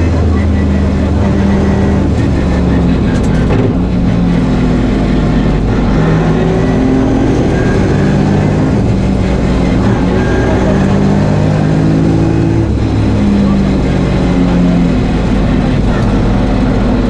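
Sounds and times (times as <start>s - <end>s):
car engine revving: 0.0s - 17.0s
road and tyre noise: 0.0s - 17.0s.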